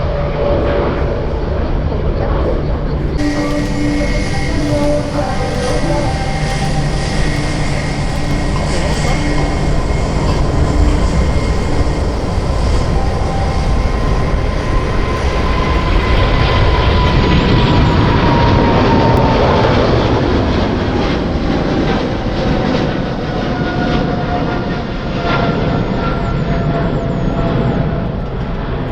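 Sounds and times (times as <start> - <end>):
jet airliner engines passing: 0.0 - 28.9.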